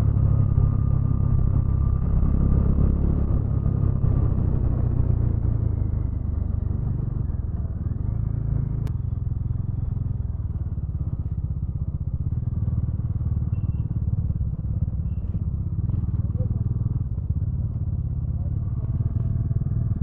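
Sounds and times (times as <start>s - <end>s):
motorcycle engine running steadily: 0.0s - 20.0s.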